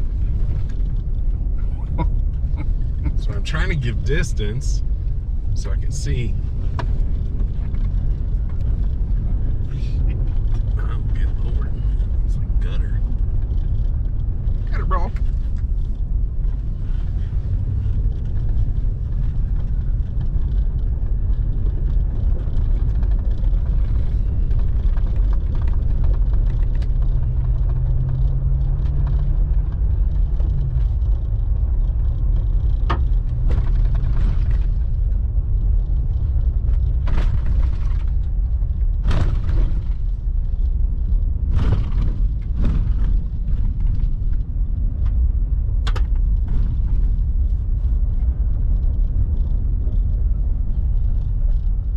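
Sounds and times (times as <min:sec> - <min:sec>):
truck engine and tyres rumbling: 0:00.0 - 0:51.9.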